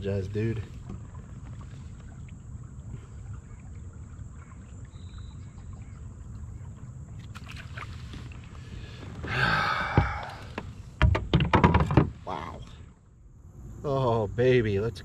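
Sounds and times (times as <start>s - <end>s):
water rumble: 0.0s - 15.0s.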